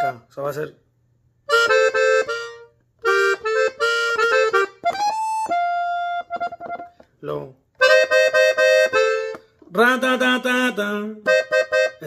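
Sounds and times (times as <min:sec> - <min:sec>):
button accordion melody: 0:00.0 - 0:00.3, 0:01.4 - 0:07.1, 0:07.8 - 0:12.0.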